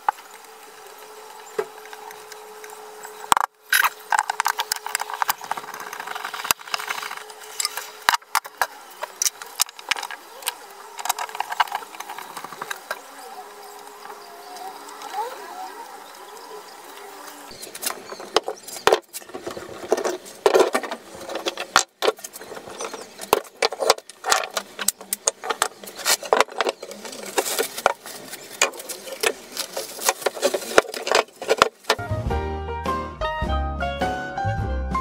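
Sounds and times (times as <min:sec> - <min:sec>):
mechanical whir: 0:00.0 - 0:31.9.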